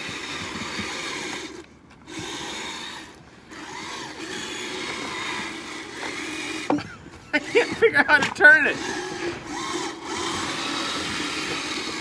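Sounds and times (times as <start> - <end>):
toy electric motor whining: 0.0 - 12.0.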